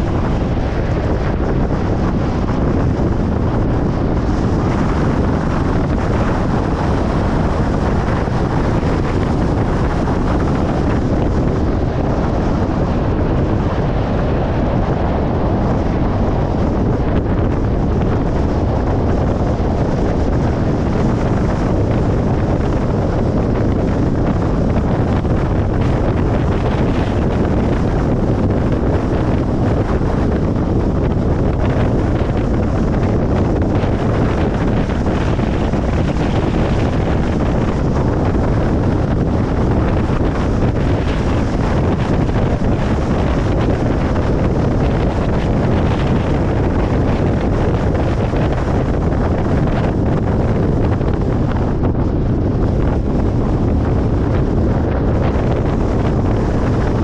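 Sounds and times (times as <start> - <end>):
tyre and wind rumble: 0.0 - 57.0.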